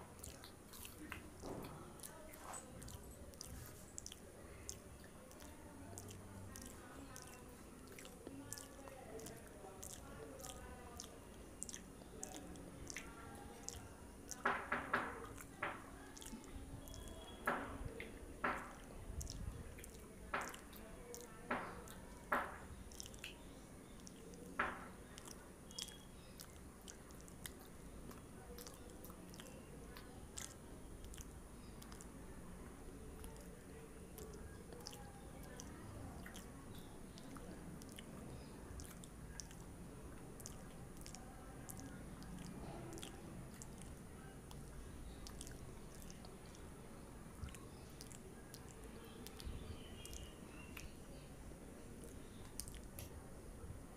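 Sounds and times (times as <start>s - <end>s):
person chewing fried snack: 0.1s - 14.6s, 15.2s - 17.3s, 18.5s - 32.1s, 33.1s - 46.6s, 47.4s - 51.0s, 52.0s - 53.1s
wet mouth sounds: 0.1s - 53.1s.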